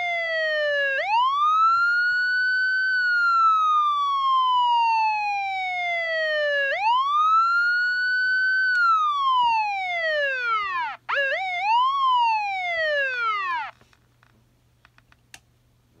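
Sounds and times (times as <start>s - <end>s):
electronic siren wailing: 0.0s - 13.8s.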